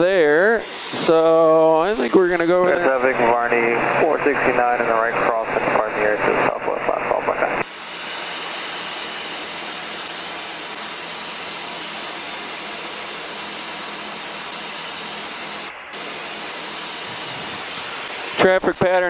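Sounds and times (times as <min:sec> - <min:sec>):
aircraft cockpit engine hiss: 0:00.0 - 0:19.0.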